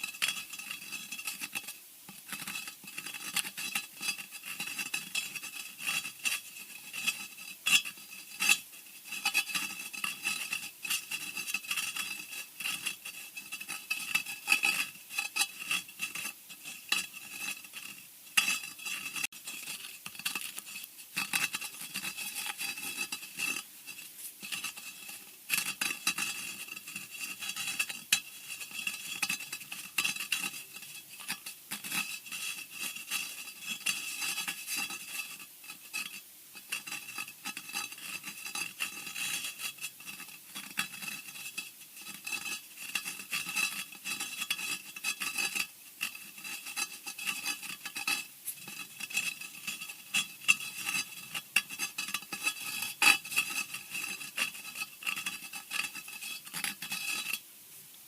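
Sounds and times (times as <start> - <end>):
scratching and scraping: 0.0 - 57.4.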